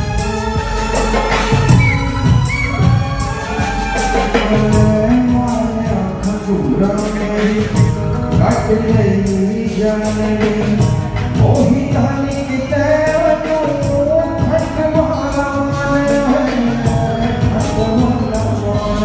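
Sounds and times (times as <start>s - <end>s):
band with drums and guitar: 0.0s - 19.0s
man singing: 1.8s - 19.0s.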